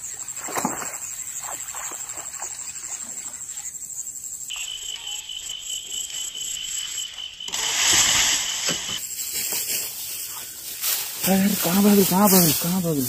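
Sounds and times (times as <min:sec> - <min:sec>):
insects trilling: 0:00.0 - 0:13.0
lower insect trill: 0:00.0 - 0:13.0.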